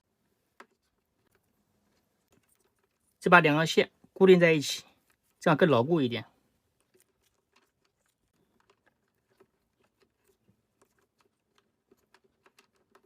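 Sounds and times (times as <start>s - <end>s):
faint clicks and rustles of wires: 0.0s - 13.0s.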